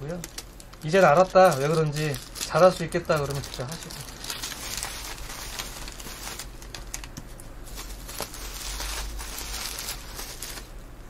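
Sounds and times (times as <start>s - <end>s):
bubble wrap crinkling: 0.0s - 10.8s.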